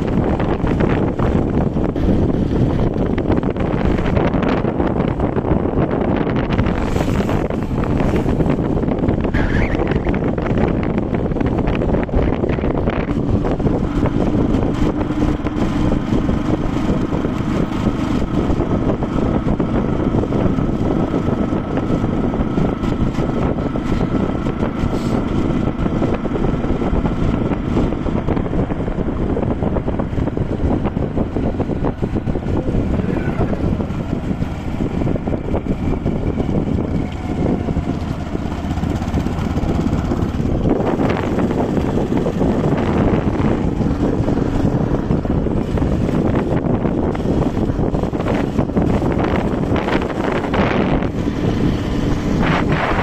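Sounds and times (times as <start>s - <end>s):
wind noise on microphone: 0.0s - 53.0s.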